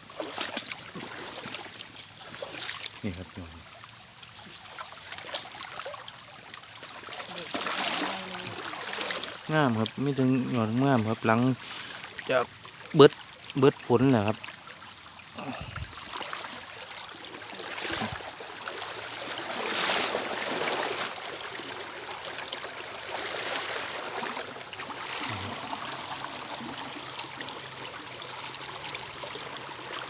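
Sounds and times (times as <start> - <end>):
splashing through shallow water: 0.0 - 30.0.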